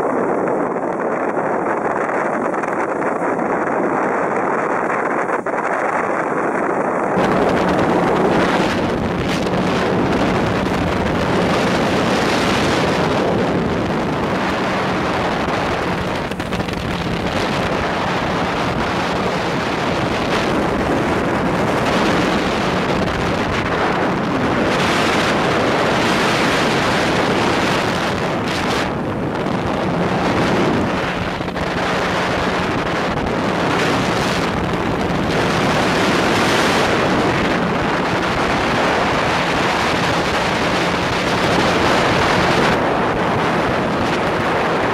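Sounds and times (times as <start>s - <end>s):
speedboat engine droning: 0.0s - 44.9s
wind buffeting microphone: 0.0s - 44.9s.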